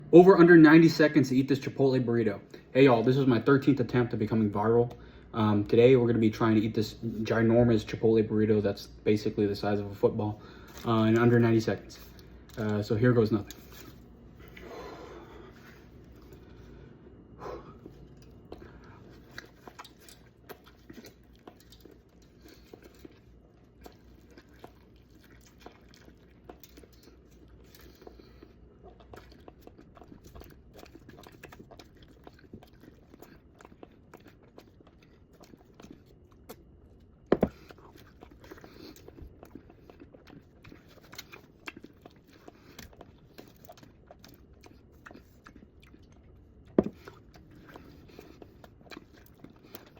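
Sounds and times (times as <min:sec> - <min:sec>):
person chewing food: 0:09.8 - 0:49.9.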